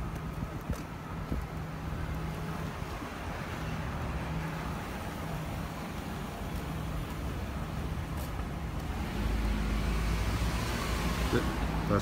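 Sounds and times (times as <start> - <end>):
car engines running: 0.0 - 12.0
road noise hiss: 0.0 - 12.0.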